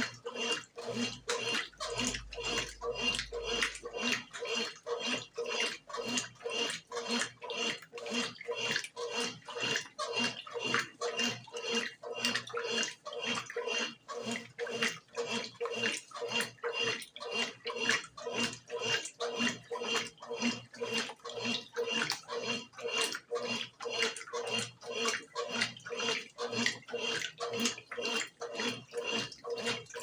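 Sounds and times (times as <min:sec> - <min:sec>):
washing machine sloshing: 0:00.0 - 0:30.0.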